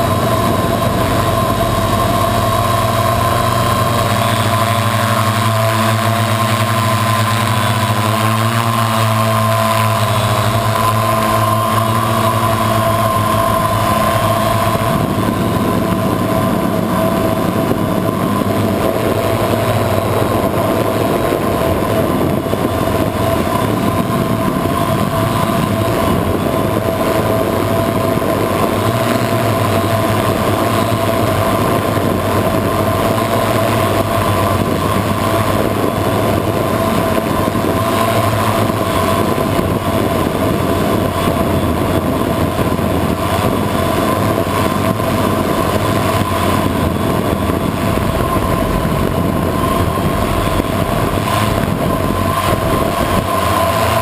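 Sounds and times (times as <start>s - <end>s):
drone motors whirring: 0.0s - 54.0s.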